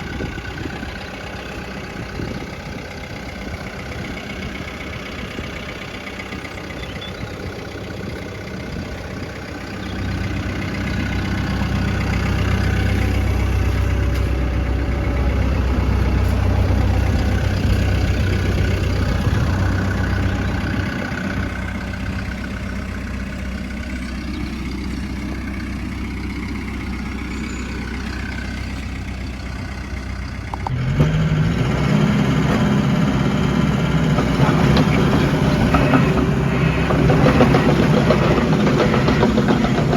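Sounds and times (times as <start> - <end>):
crawler dozer diesel engine: 0.0 - 39.9.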